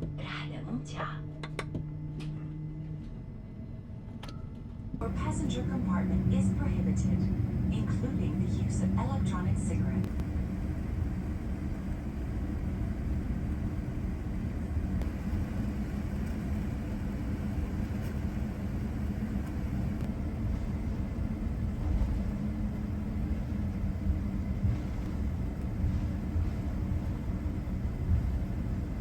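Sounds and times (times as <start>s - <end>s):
airplane cabin rumble: 0.0s - 29.0s
faint steady hum: 0.0s - 29.0s.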